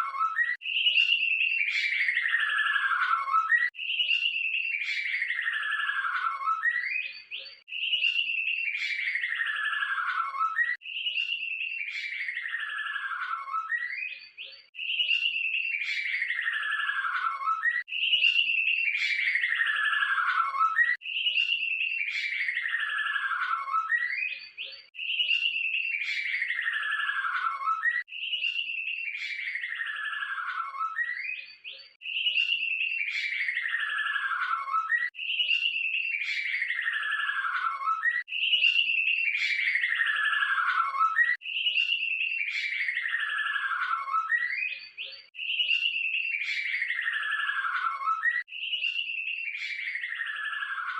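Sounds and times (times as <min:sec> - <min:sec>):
songbird trilling song: 0:00.0 - 0:50.9.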